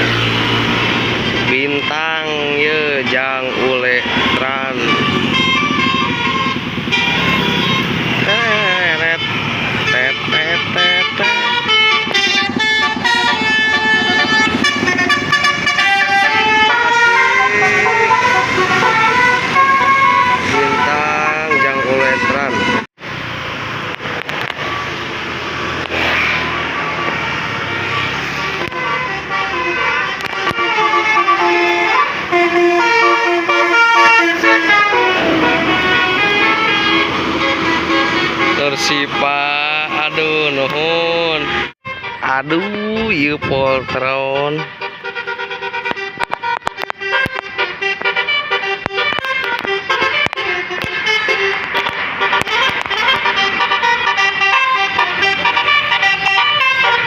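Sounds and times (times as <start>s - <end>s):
musical bus horn playing a tune: 0.0s - 22.9s, 25.8s - 57.0s.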